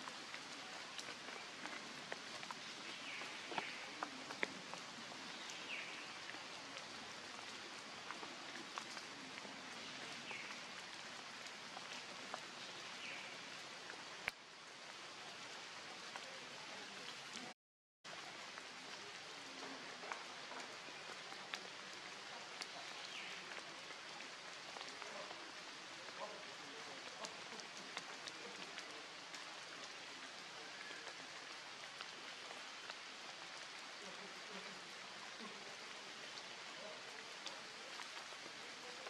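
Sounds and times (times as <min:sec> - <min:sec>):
rain on foliage: 0:00.0 - 0:39.0
sharper raindrops: 0:00.0 - 0:39.0.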